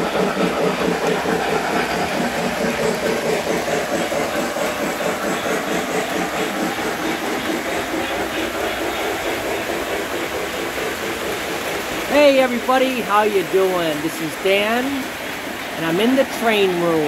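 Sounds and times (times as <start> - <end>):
model trains rumbling with pulsing: 0.0 - 17.0.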